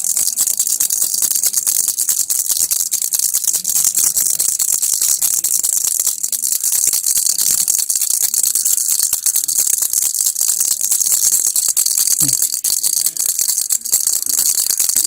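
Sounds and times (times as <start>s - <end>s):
baby rattle shaken: 0.0s - 15.0s.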